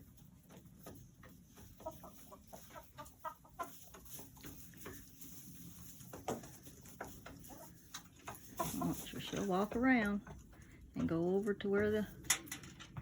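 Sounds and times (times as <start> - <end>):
hens clucking: 0.0 - 12.1.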